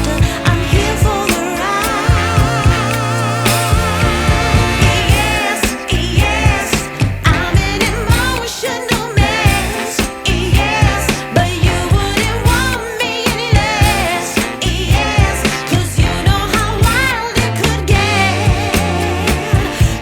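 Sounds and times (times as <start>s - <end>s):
music with steady beat: 0.0s - 20.0s
wavering sung vocal: 0.0s - 20.0s.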